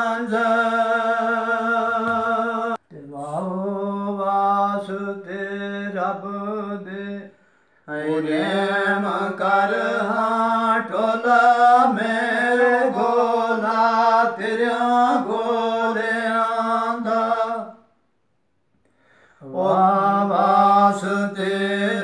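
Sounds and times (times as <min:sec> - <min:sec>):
man singing unaccompanied chant: 0:00.0 - 0:17.8, 0:19.4 - 0:22.0.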